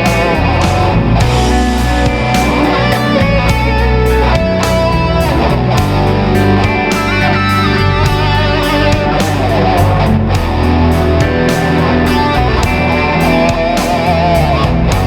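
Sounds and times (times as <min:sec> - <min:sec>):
electric guitar sustained notes: 0:00.0 - 0:15.0.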